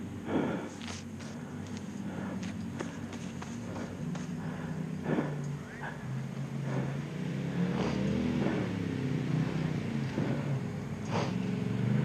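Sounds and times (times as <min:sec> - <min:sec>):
atv engines running: 0:00.0 - 0:12.0.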